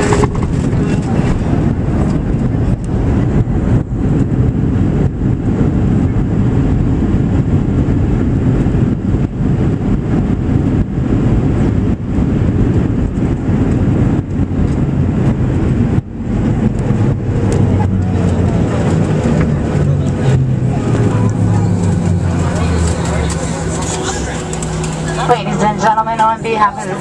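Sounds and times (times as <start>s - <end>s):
airplane cabin rumble: 0.0s - 27.0s.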